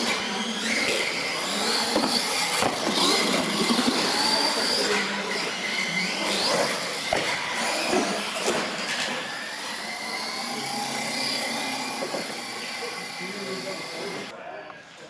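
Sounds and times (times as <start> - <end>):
toy truck electric motor whining: 0.0 - 14.3.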